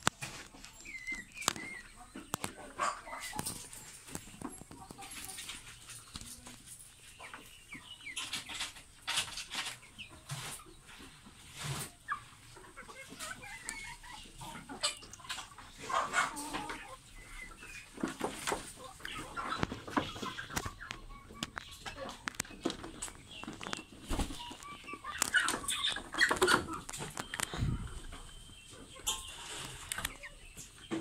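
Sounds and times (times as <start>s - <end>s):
chickens clucking and chirping: 0.0s - 31.0s.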